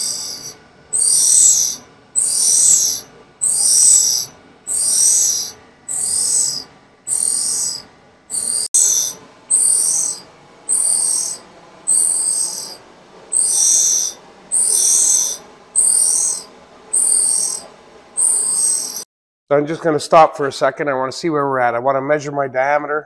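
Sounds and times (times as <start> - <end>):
grinding wheel hissing grind: 0.0 - 19.0.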